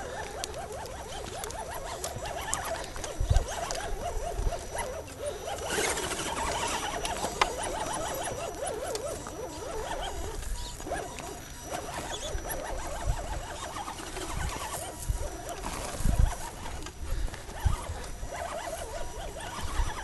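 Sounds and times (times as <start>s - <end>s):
dogs whining and yelping: 0.0s - 20.0s.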